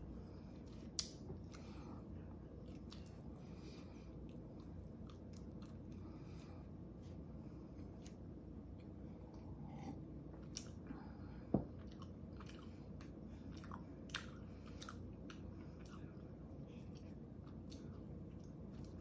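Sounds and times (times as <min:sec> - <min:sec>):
chewing soft bread: 0:00.1 - 0:19.0.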